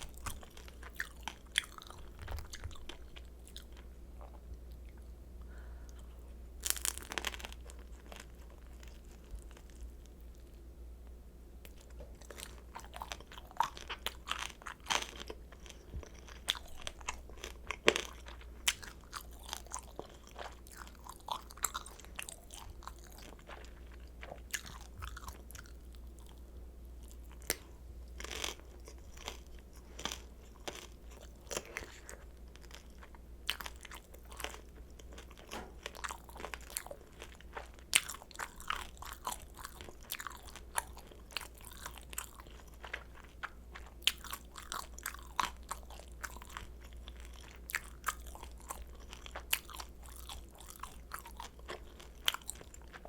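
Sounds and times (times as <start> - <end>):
chewing crunchy dumplings: 0.0 - 10.6, 11.6 - 53.0.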